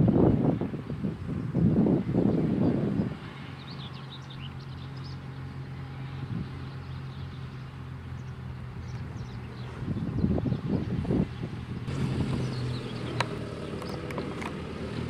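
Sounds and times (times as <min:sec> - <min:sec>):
wind buffeting microphone: 0:00.0 - 0:15.0
birds chirping: 0:01.3 - 0:15.0
diesel engine running: 0:02.8 - 0:15.0.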